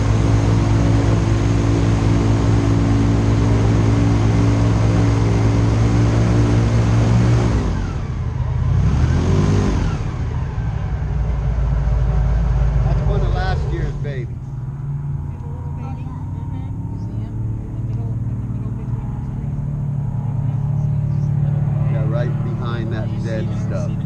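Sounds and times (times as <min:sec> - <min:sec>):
airboat engine and propeller: 0:00.0 - 0:24.0.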